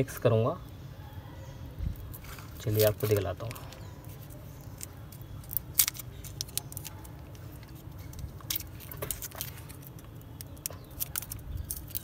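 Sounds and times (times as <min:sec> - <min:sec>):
plastic wrappers crinkling and tearing: 0:02.1 - 0:12.0.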